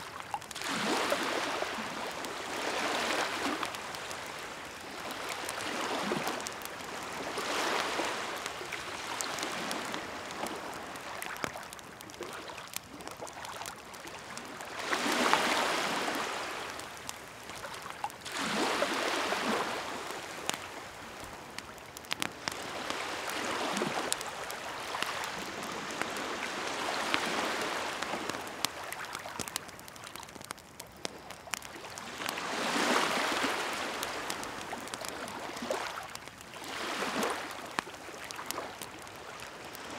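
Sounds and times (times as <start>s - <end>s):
waves washing in: 0.0s - 11.6s, 14.1s - 21.4s, 22.0s - 30.6s, 31.6s - 38.8s
campfire crackling and popping: 0.0s - 39.9s.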